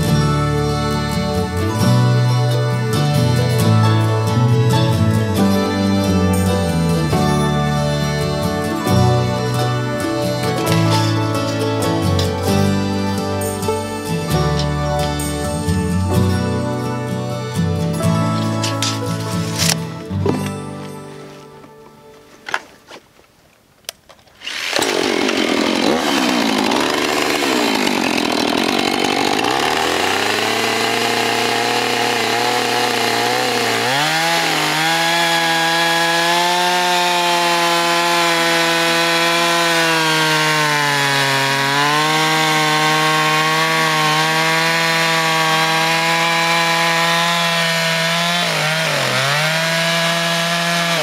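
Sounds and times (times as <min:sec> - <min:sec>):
chainsaw cutting log: 0:00.0 - 0:16.4, 0:17.5 - 0:20.4, 0:24.2 - 0:51.0.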